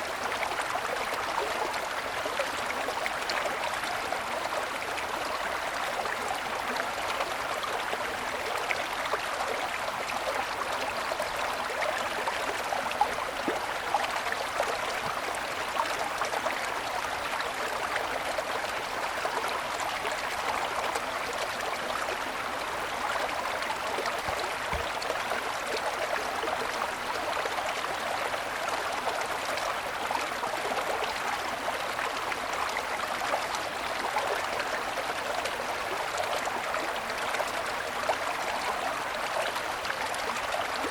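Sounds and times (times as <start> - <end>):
mountain stream running: 0.0 - 40.9.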